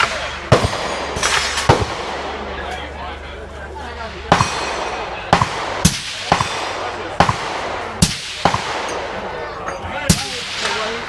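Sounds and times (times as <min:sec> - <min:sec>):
gunshots: 0:00.0 - 0:02.7, 0:04.2 - 0:09.4, 0:10.1 - 0:11.0.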